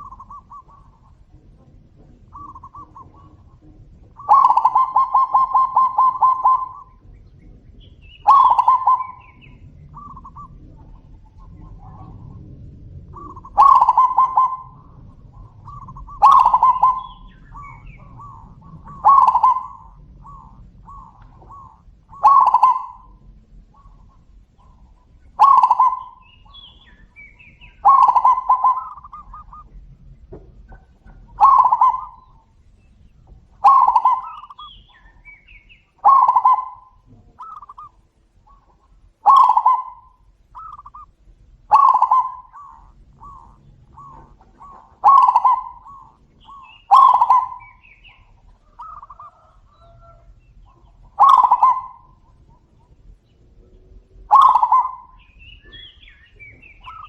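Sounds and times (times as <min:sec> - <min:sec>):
doves cooing: 0:00.0 - 0:57.0
loud rippling dove call: 0:00.0 - 0:57.0.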